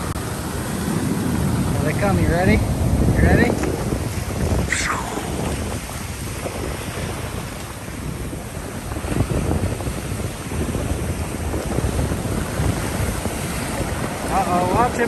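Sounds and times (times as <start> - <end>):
ocean surf washing up beach: 0.0 - 15.0
wind buffeting microphone: 0.0 - 15.0.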